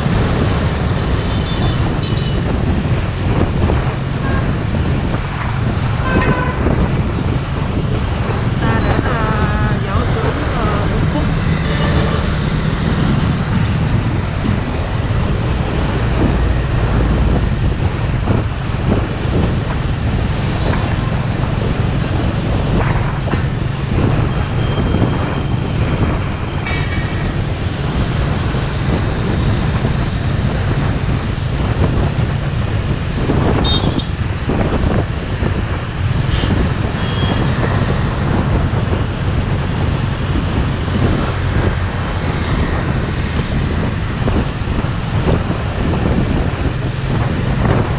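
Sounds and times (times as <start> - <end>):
engine and road noise: 0.0 - 47.9
wind buffeting microphone: 0.0 - 47.9.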